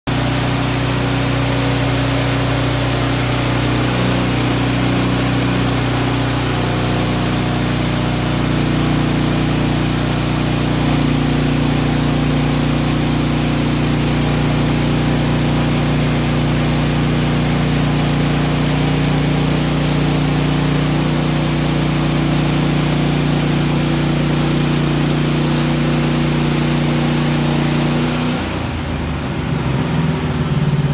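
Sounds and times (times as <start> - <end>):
sawmill machinery drone: 0.0 - 30.9.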